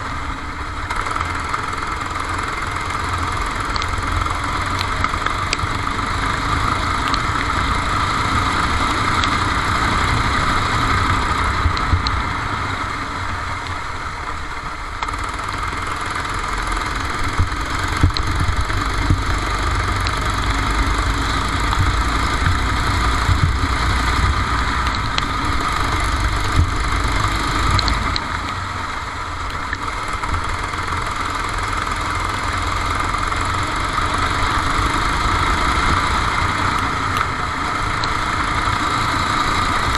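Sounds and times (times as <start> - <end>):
kart engine running: 0.0 - 39.9.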